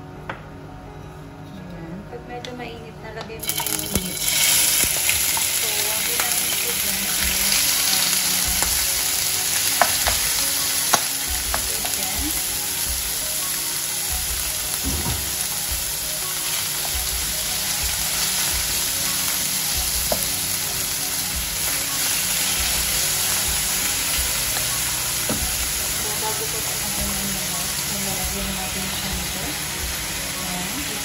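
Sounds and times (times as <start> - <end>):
meat sizzling in oil: 3.4 - 31.0.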